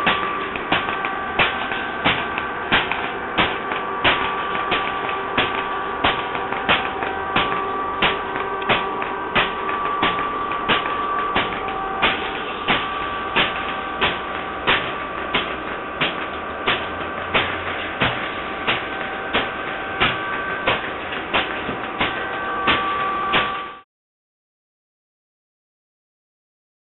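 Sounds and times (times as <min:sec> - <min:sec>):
robot knocking on metal: 0:00.0 - 0:23.6
noisy hum: 0:00.0 - 0:23.8.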